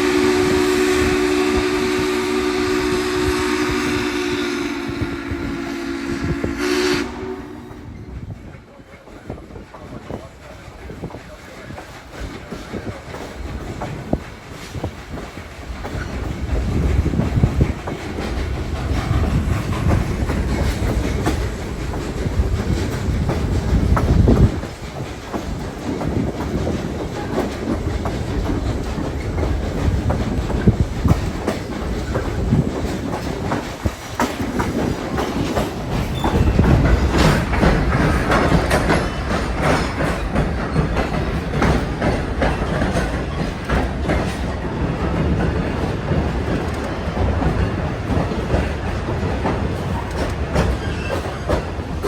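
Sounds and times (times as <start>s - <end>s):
train rumbling: 0.0s - 52.0s
wheels clicking over rail joints: 8.4s - 52.0s.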